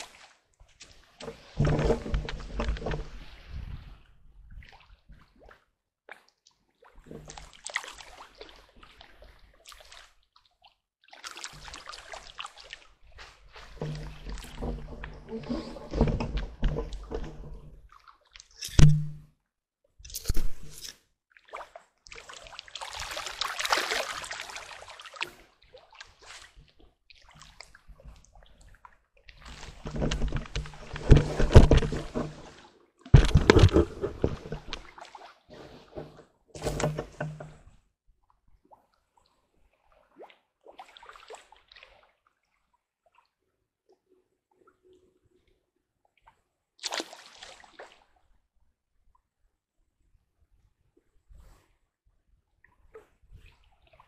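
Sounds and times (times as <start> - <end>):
water splashing and sloshing: 0.0 - 19.4, 20.0 - 49.3, 50.5 - 54.0.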